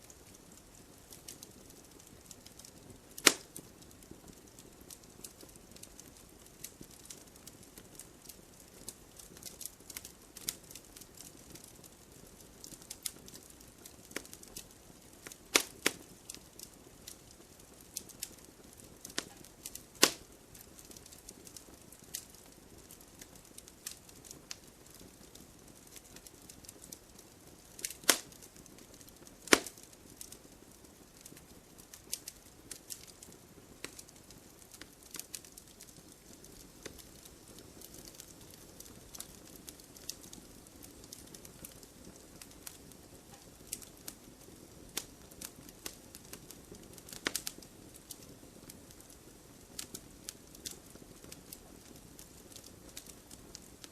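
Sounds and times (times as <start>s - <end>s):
campfire crackling: 0.0s - 53.9s
loud pops from burning wood: 0.0s - 53.9s.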